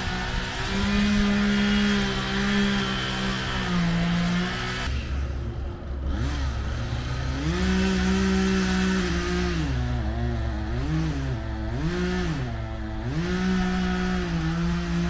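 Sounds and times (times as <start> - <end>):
chainsaw revving cutting wood: 0.0 - 5.3, 6.0 - 15.0.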